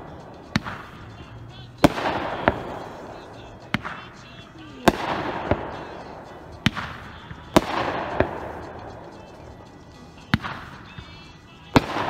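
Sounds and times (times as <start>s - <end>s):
firework bangs: 0.0s - 12.0s
firework crackle: 0.0s - 12.0s.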